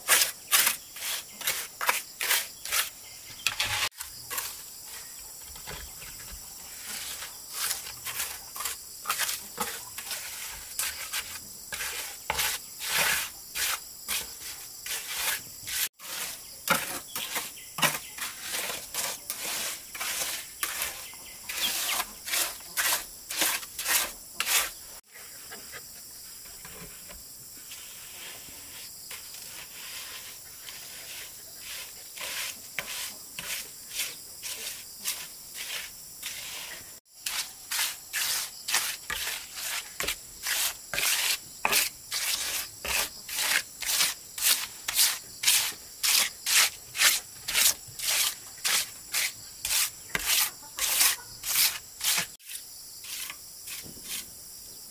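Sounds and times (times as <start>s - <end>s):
rhythmic scraping on wood: 0.0s - 54.3s.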